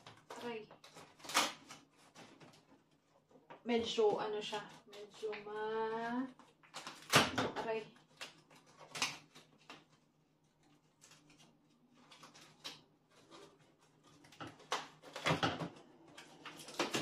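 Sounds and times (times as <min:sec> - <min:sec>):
cardboard rustling: 0:00.0 - 0:17.0.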